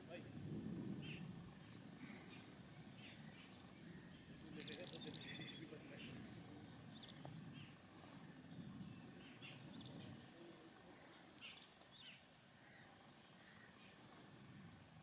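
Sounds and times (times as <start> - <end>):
faint bird chirps: 0.9 - 14.7.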